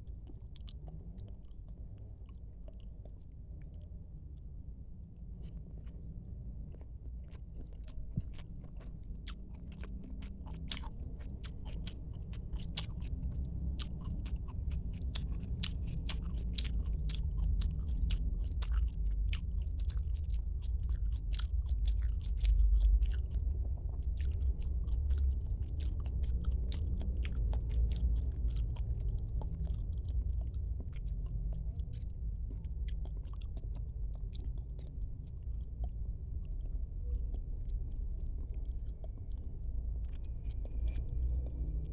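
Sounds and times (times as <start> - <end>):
person chewing: 5.4 - 41.9.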